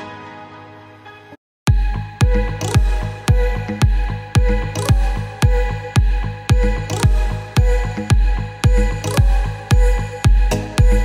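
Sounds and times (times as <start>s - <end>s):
electronic dance music: 1.7s - 11.0s.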